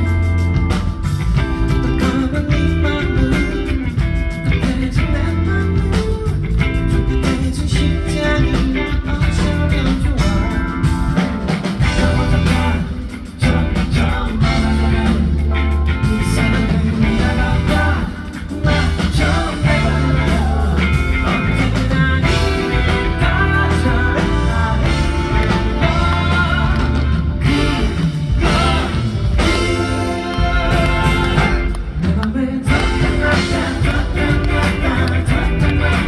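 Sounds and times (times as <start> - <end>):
live rock band: 0.0 - 36.0
man singing: 1.6 - 36.0.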